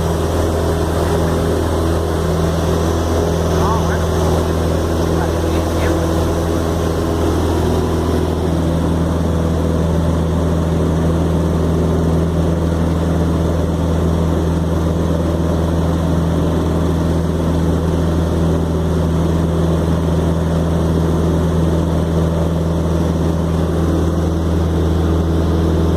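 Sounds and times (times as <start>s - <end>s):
light aircraft engine droning: 0.0s - 25.9s.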